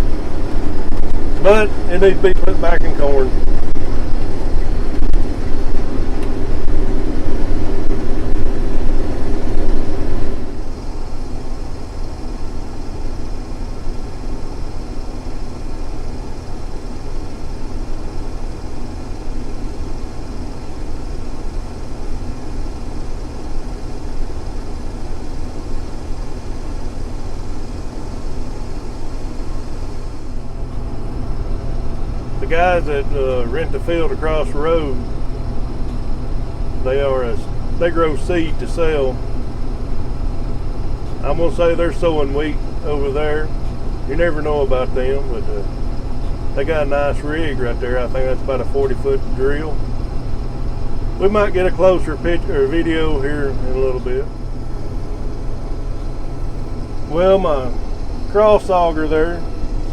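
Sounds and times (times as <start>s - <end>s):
combine harvester running: 0.0s - 59.9s
strong hum: 0.0s - 59.9s.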